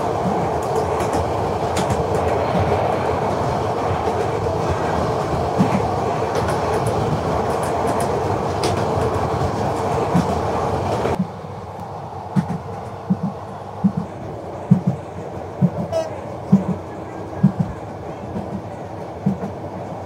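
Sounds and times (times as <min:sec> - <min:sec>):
rail clicks: 0:00.0 - 0:20.0
train wheels rumbling on rail: 0:00.0 - 0:20.0.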